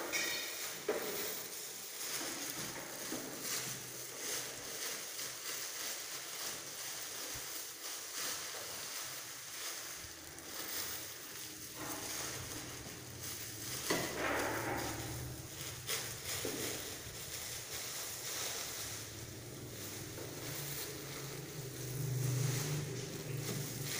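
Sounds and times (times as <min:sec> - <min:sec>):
plastic bags crinkling: 0:00.0 - 0:23.9.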